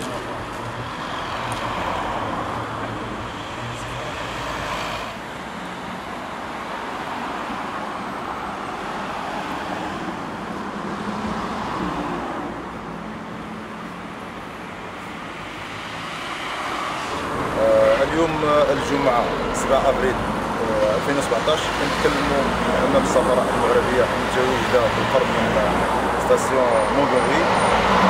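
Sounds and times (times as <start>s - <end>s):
cars driving past: 0.0s - 28.0s.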